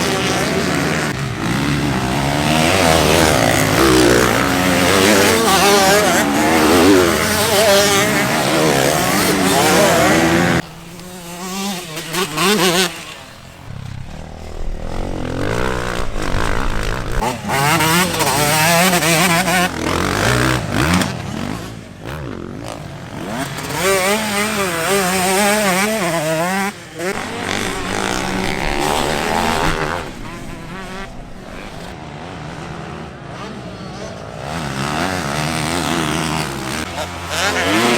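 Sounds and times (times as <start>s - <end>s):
motocross bike engines revving: 0.0s - 37.9s.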